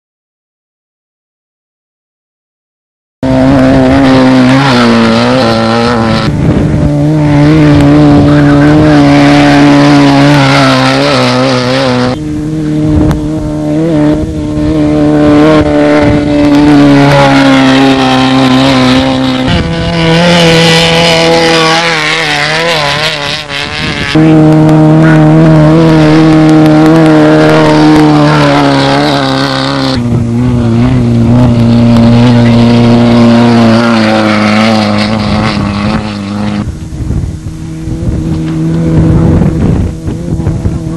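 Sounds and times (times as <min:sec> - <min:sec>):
race buggy engines at high revs: 0:03.2 - 0:40.9.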